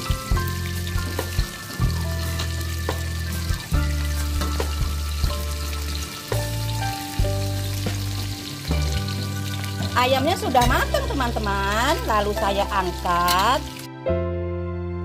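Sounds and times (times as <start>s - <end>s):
music with deep bass: 0.0s - 13.2s
chicken deep-frying in oil: 0.0s - 13.9s.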